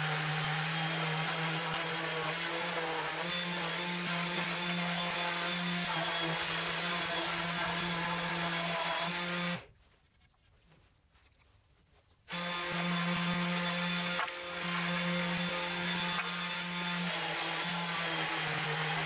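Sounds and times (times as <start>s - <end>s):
power tool motor humming: 0.0s - 9.7s, 12.3s - 19.0s.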